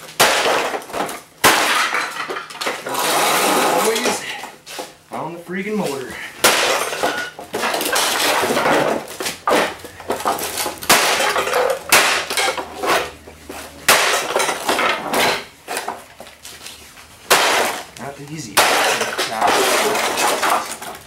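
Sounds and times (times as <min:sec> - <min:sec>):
broken pieces clattering: 0:00.0 - 0:04.2, 0:06.4 - 0:16.3, 0:17.3 - 0:21.0
heavy blows smashing plastic housing: 0:00.0 - 0:04.2, 0:06.4 - 0:13.2, 0:13.8 - 0:16.0, 0:17.2 - 0:21.0.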